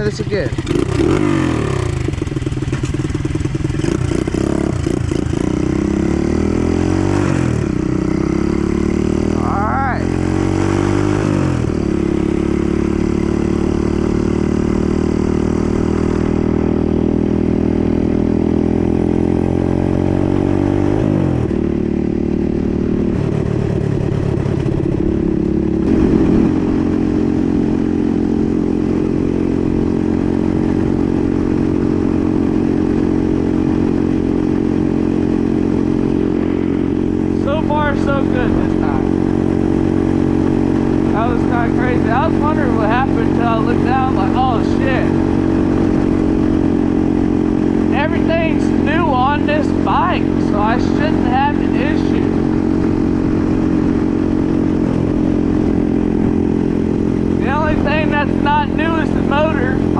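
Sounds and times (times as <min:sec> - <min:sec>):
dirt bike engine shifting gears: 0:00.0 - 0:22.1, 0:29.7 - 0:59.9.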